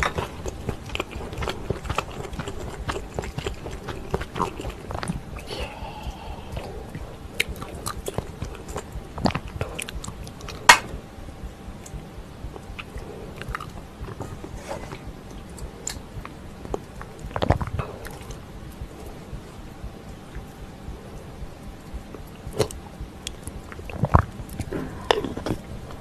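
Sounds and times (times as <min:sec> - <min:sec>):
wet chewing and mouth smacks: 0:00.0 - 0:11.0, 0:11.8 - 0:26.0.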